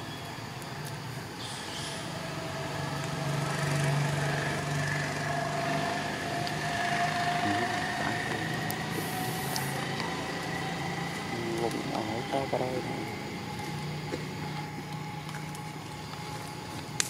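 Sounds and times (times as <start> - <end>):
high whine: 0.0 - 17.0
motor idling drone: 1.2 - 17.0.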